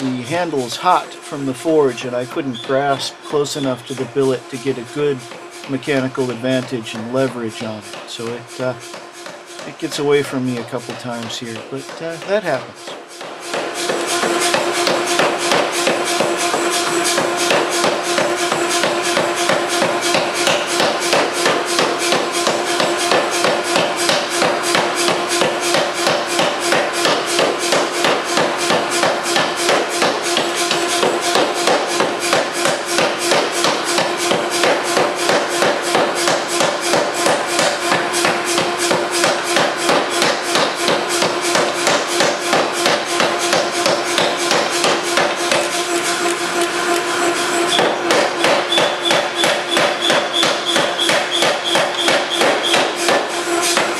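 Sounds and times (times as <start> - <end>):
forging hammer pounding steel: 0.0 - 53.9
steady hum: 0.0 - 53.9.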